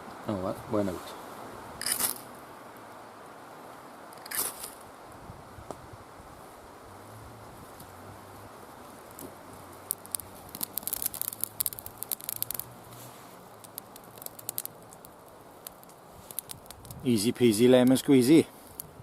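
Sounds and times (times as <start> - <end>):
low wind noise: 0.0 - 19.0
fire crackling and popping: 1.2 - 19.0.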